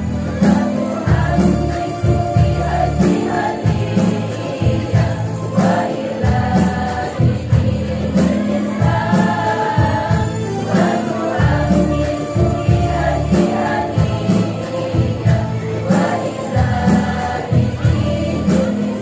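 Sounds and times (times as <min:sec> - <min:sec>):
percussion hits: 0:00.0 - 0:19.0
women's choir singing: 0:00.0 - 0:19.0.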